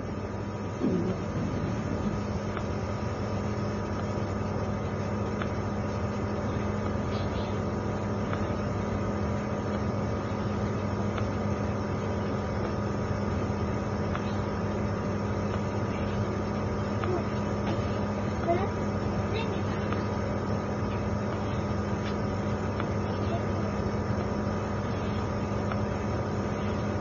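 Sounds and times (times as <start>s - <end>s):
train coach interior rumble: 0.0s - 27.0s.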